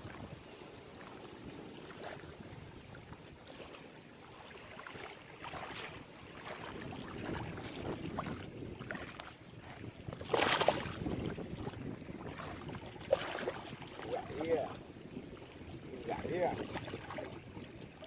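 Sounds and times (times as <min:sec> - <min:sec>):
wind buffeting microphone: 0:00.0 - 0:03.4, 0:05.0 - 0:18.0
choppy lake water: 0:00.0 - 0:18.0.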